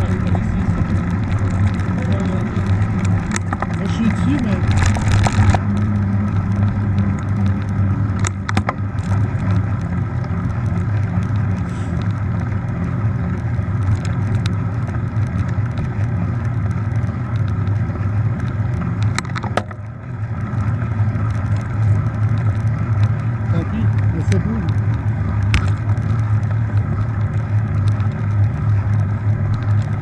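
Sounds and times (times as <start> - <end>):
bike tyre rumble and wind: 0.0 - 30.0
sharp clicks from bike: 0.0 - 30.0.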